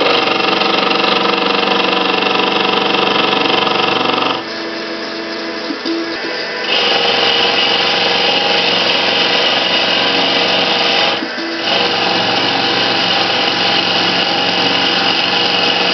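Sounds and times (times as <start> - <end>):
metal lathe cutting metal: 0.0 - 15.9.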